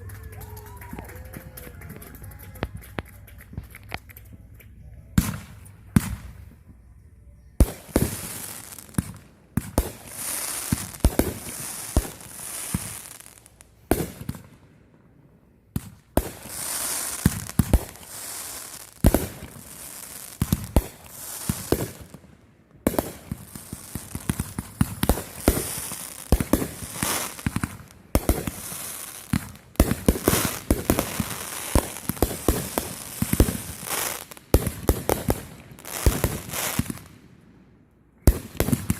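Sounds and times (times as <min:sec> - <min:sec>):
fireworks cracking and popping: 0:00.0 - 0:06.6, 0:07.6 - 0:14.5, 0:15.8 - 0:37.2, 0:38.2 - 0:38.9.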